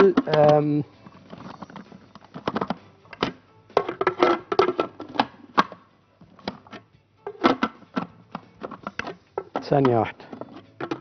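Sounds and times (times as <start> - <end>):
plastic lid clicking into place: 0.0 - 0.7, 1.7 - 5.8, 6.4 - 11.0.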